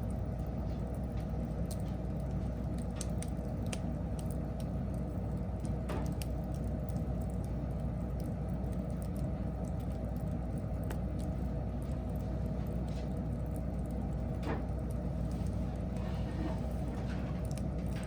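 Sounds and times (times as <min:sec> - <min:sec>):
fire low rumble: 0:00.0 - 0:18.0
wood crackling and popping: 0:00.0 - 0:18.0.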